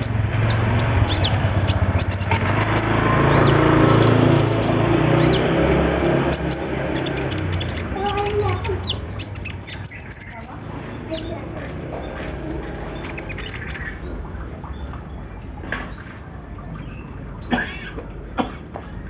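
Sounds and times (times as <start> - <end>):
bird high-pitched ticking song: 0.0 - 17.6.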